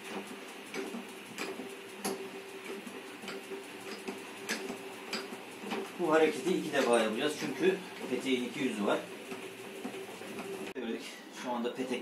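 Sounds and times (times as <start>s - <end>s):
drum whirring: 0.0s - 10.8s
crank gear ticking: 0.5s - 10.6s.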